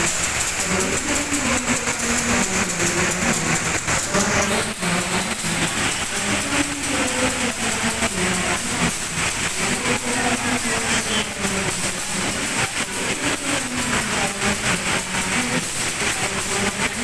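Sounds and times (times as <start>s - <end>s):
train rumble and hiss: 0.0s - 17.0s
wheels clacking on rails: 0.0s - 17.0s.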